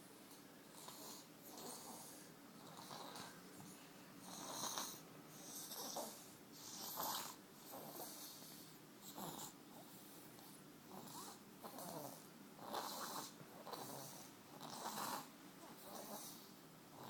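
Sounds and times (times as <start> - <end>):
snoring: 0.7 - 3.4, 4.2 - 17.0.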